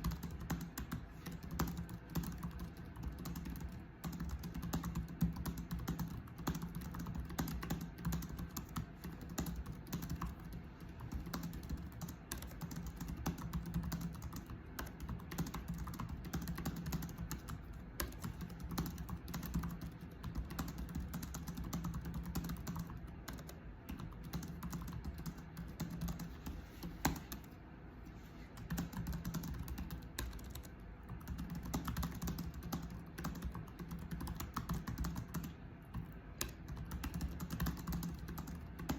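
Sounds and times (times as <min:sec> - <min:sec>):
fast keyboard typing: 0:00.0 - 0:27.5, 0:28.6 - 0:38.9
steady low hum: 0:00.0 - 0:38.9.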